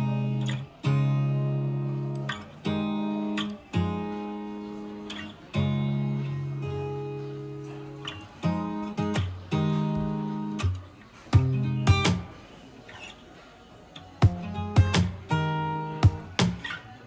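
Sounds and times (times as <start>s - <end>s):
acoustic guitar chords strummed: 0.0s - 13.4s, 14.0s - 17.0s.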